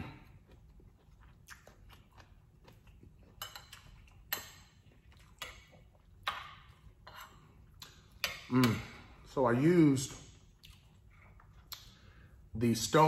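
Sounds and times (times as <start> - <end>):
soft chewing: 0.0 - 9.4, 10.1 - 12.5.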